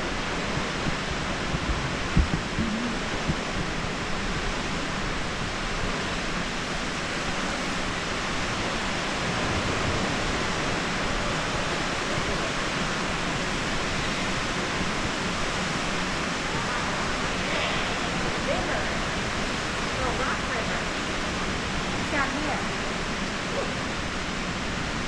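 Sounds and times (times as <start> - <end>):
indoor aquarium hall ambience: 0.0 - 25.0.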